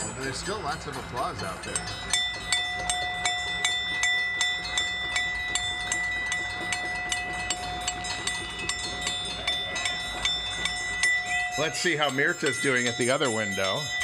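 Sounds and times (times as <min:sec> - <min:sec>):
struck metal bowl ringing: 0:00.0 - 0:14.0.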